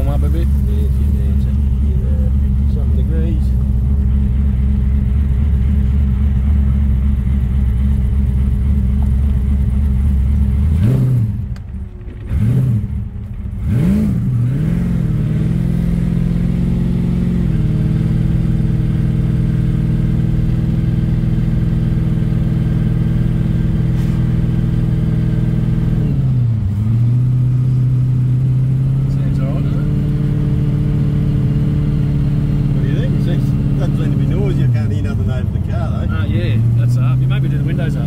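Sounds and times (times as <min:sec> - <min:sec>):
car engine heard from cabin: 0:00.0 - 0:38.0.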